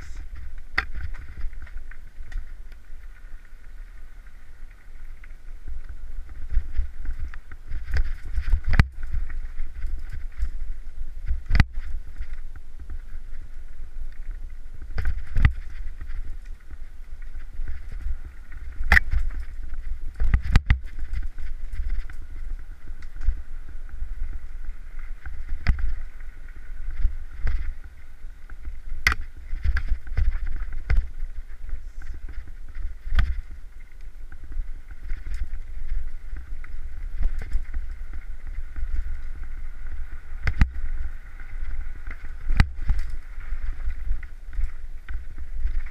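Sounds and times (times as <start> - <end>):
bike knocking and rattling: 0.0 - 45.9
tyre and wind rumble: 0.0 - 45.9.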